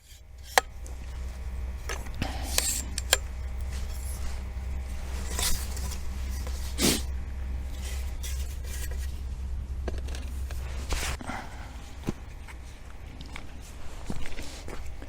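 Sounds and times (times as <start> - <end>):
low rumble: 0.2 - 15.0.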